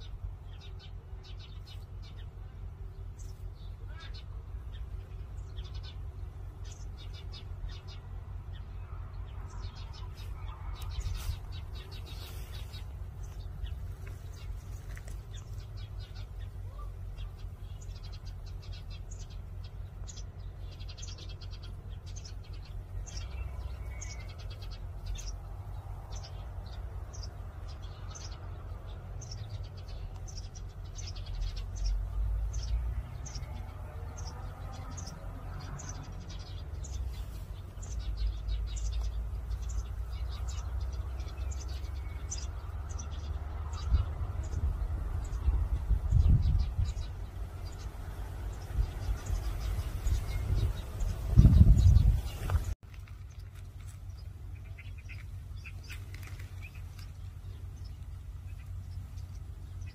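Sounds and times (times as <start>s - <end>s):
small birds chirping: 0.0s - 59.9s
steady low rumble: 0.0s - 59.9s.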